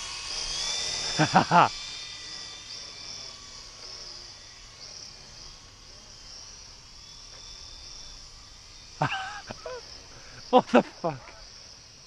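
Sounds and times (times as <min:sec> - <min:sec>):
crickets chirping: 0:00.0 - 0:12.0
electric motor whine: 0:00.0 - 0:12.0.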